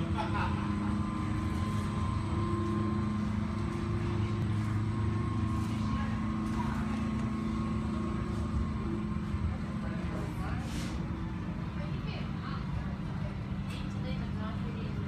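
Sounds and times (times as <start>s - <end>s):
faint constant whine: 0.0s - 15.0s
low mechanical drone: 0.0s - 15.0s.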